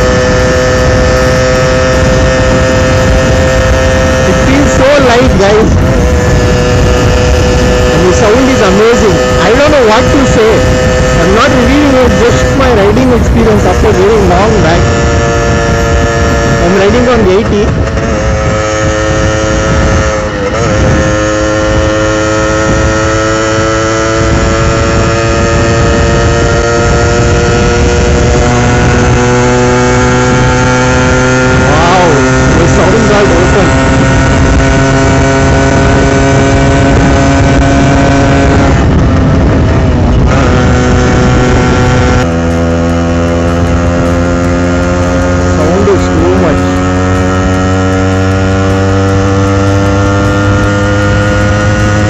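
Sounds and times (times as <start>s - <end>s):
two-stroke motorcycle engine: 0.0s - 52.0s
wind rushing over microphone: 0.0s - 52.0s.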